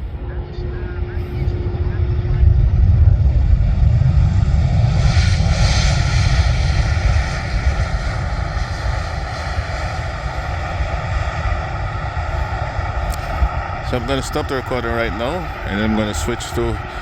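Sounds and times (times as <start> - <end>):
jet airliner passing: 0.0 - 17.0.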